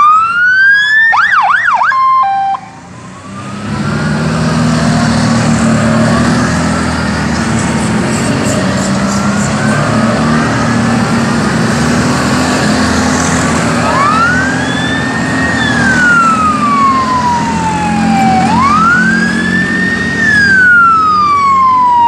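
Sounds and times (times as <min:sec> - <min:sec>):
siren wailing: 0:00.0 - 0:22.0
quad bike engines passing: 0:02.8 - 0:22.0.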